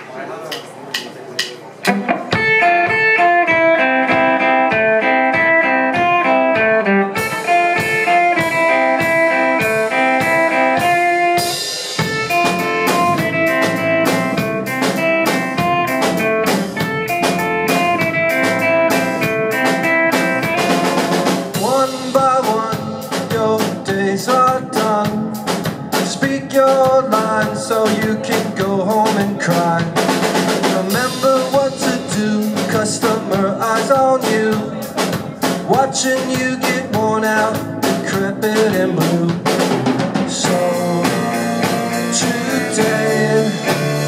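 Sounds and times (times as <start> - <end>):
live band playing: 0.0 - 44.0
drum beat: 0.5 - 6.6, 7.2 - 44.0
repeated guitar figure: 1.4 - 44.0.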